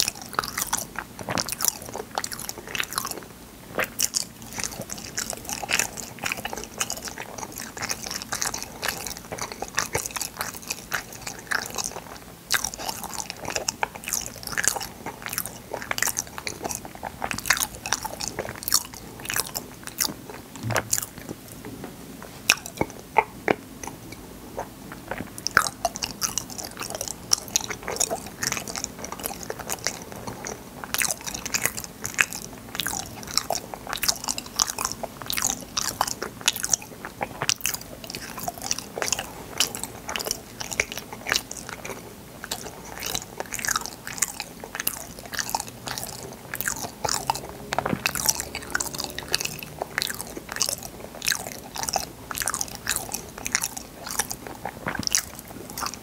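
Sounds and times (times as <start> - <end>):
wet sticky chewing: 0.0 - 21.6, 22.2 - 56.0.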